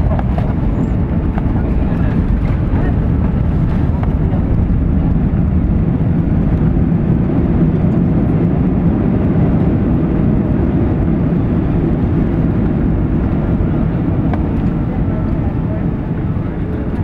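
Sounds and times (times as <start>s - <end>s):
jet engines and wheels rumbling: 0.0s - 17.0s.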